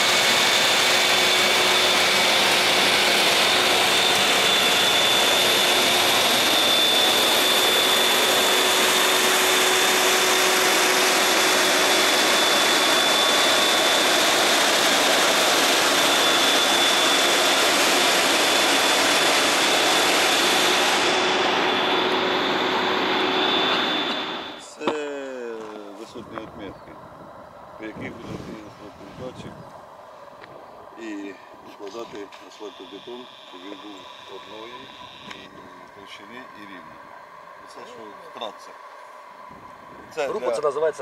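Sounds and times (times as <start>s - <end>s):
high whine: 0.0s - 41.0s.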